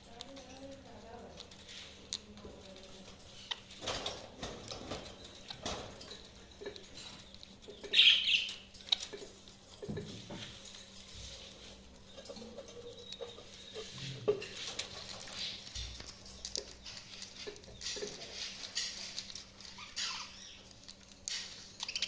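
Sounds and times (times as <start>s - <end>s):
budgies rustling and fluttering: 0.0s - 22.0s.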